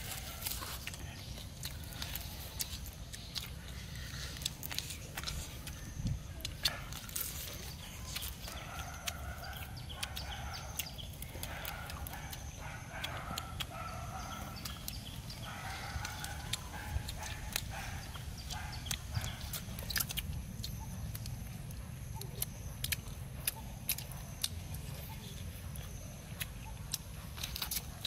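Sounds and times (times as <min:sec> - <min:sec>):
bones clicking being bitten: 0:00.4 - 0:24.8, 0:26.4 - 0:28.0.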